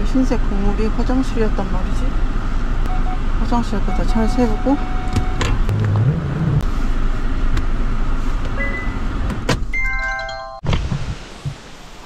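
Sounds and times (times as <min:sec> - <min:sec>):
engine and tyre rumble: 0:00.0 - 0:09.8.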